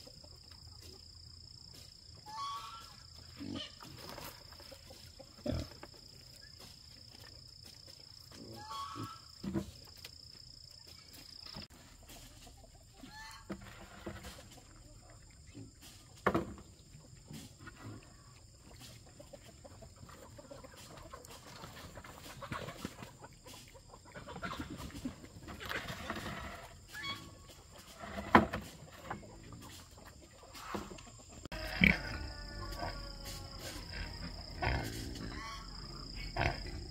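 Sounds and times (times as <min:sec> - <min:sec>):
chickens clucking: 0:00.0 - 0:10.0, 0:10.8 - 0:36.9.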